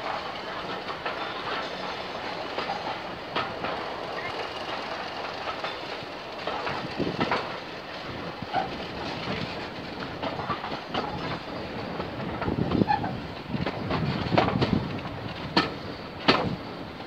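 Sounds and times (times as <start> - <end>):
wheels knocking on rail joints: 0.0 - 16.6
train rumbling: 0.0 - 17.0.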